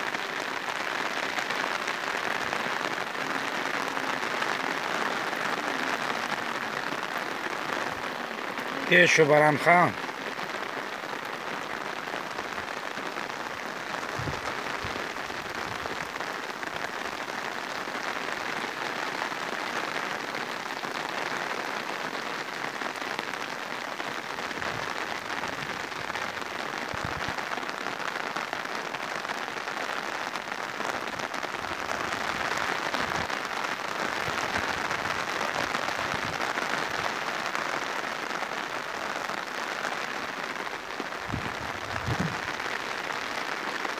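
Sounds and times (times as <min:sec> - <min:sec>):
heavy raindrops thudding: 0:00.0 - 0:43.9
rain falling: 0:00.0 - 0:43.9.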